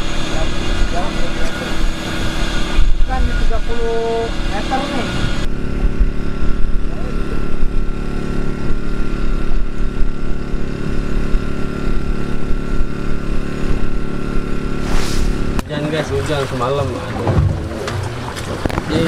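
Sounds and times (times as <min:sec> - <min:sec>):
engine machinery drone: 0:00.0 - 0:19.0.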